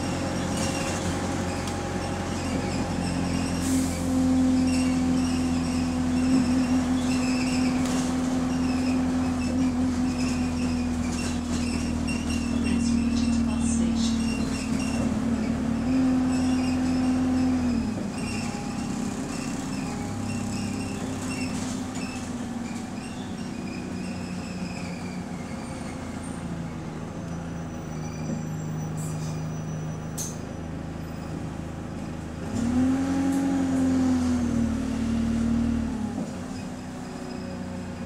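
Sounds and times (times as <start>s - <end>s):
bus engine running: 0.0s - 38.0s.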